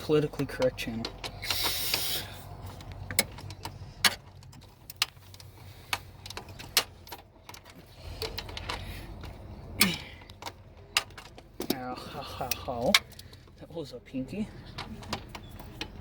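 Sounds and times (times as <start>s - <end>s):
hand tools clicking and clinking: 0.3s - 13.6s.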